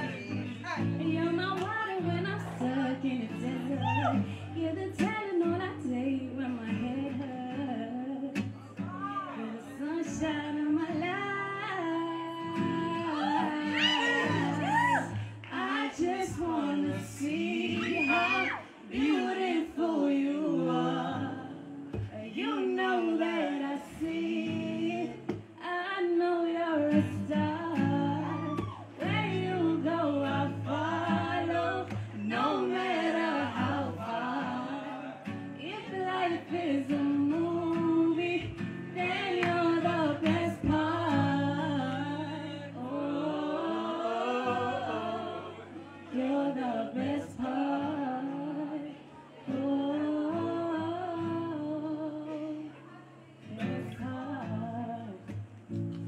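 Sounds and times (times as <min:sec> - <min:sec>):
acoustic guitar: 0:00.0 - 0:56.0
woman singing: 0:00.0 - 0:56.0.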